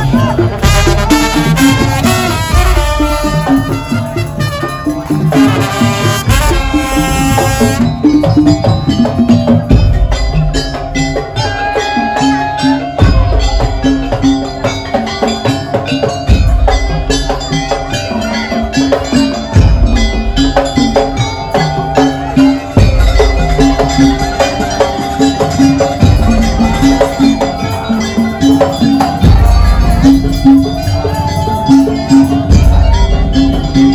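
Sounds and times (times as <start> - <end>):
percussion ensemble playing: 0.0 - 33.9.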